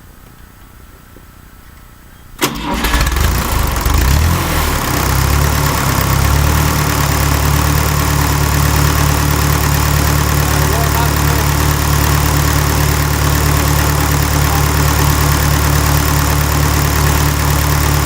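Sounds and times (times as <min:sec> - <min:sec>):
tractor engine starting and idling: 0:02.4 - 0:18.0.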